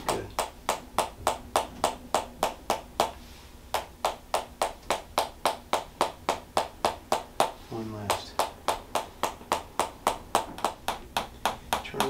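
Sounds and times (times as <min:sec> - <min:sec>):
wooden hammer tapping stick: 0:00.0 - 0:12.0.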